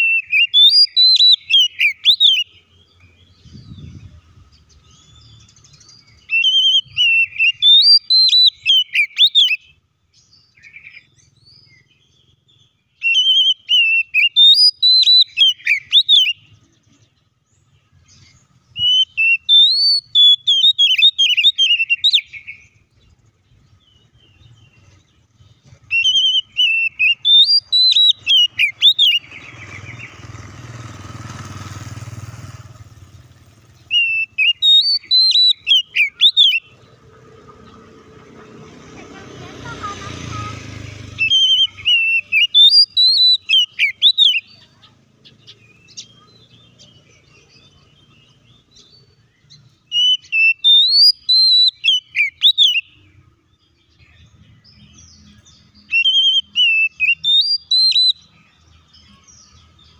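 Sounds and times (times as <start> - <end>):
bird singing whistled notes: 0.0 - 37.1, 39.7 - 59.9.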